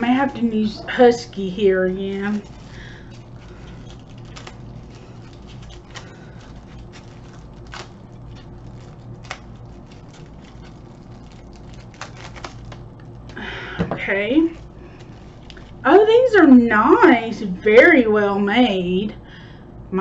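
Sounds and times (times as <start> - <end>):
packaging rustling: 0.0 - 16.0
steady low hum: 0.0 - 20.0.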